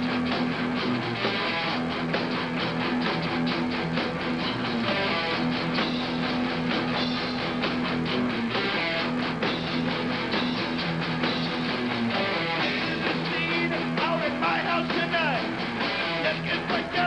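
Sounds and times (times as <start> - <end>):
lead guitar bending notes: 0.0 - 16.8
heavy metal band playing: 0.0 - 17.0.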